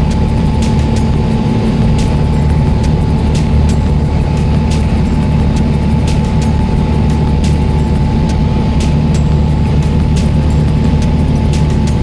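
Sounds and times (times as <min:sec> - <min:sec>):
airplane engine and propeller drone: 0:00.0 - 0:12.0.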